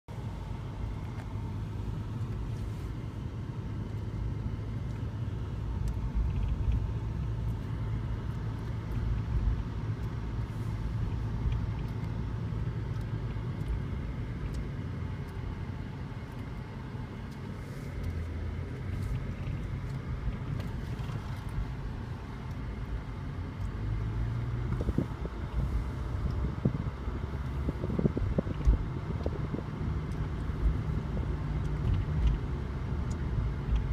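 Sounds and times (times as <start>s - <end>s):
car engine and road hum: 0.0s - 33.9s.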